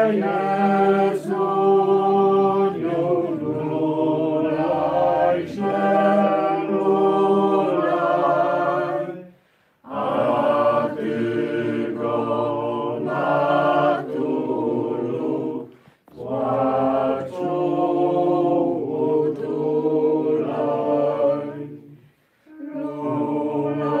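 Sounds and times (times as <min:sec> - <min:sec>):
group singing a hymn unaccompanied: 0:00.0 - 0:24.0.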